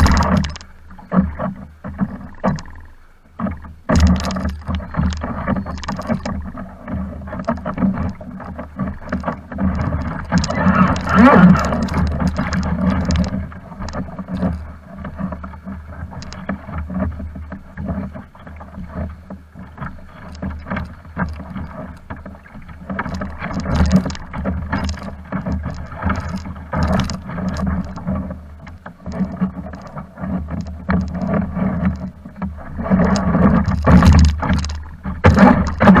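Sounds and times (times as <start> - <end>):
small waves lapping against hull: 0.0 - 36.0.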